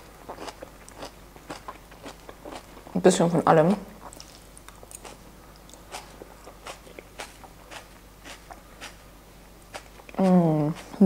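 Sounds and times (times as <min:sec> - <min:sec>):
person chewing with soft crunches: 0:00.0 - 0:03.0, 0:03.9 - 0:09.0, 0:09.6 - 0:11.0.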